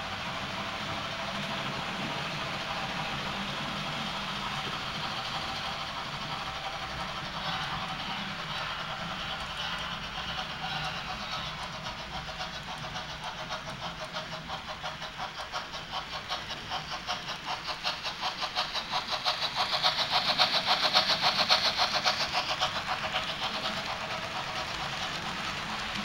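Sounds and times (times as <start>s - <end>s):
model train clicking on track: 0.0s - 26.0s.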